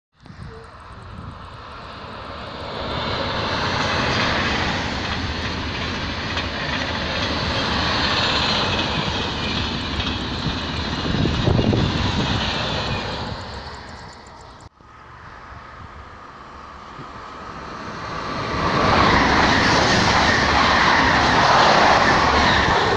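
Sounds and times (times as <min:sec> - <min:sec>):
high-speed train passing: 0:00.2 - 0:22.9
rushing wheels and air: 0:00.2 - 0:22.9.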